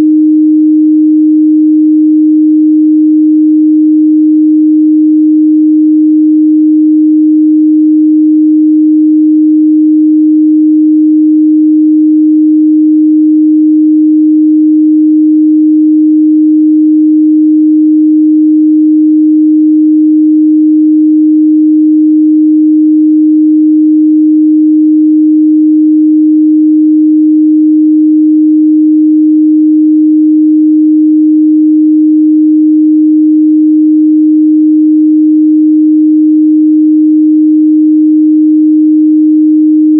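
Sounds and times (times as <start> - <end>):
pure sine test tone: 0.0 - 39.9.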